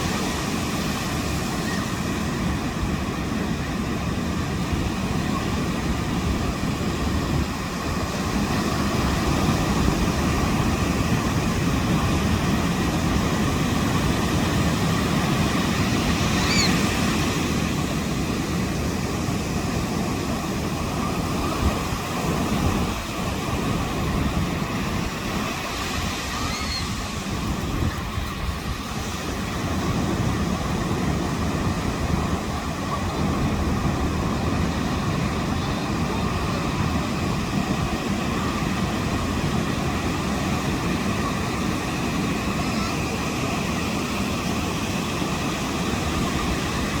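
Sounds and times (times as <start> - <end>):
ocean waves washing in: 0.0 - 47.0.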